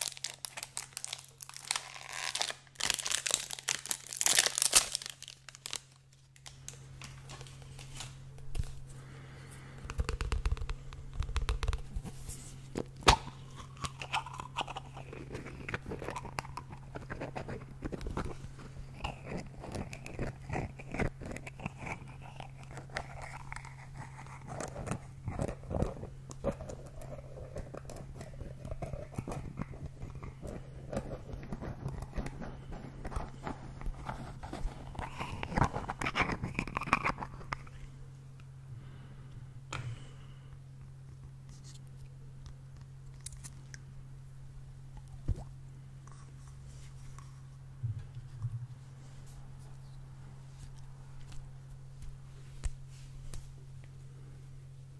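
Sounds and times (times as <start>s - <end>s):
low hum: 3.2s - 54.9s.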